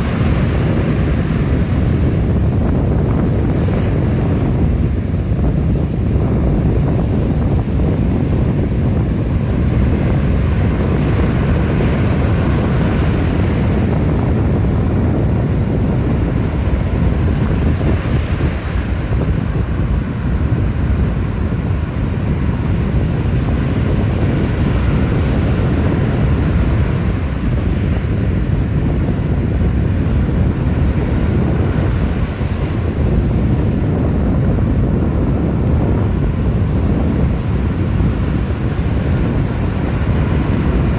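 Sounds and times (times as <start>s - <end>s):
strong wind buffeting microphone: 0.0s - 40.9s.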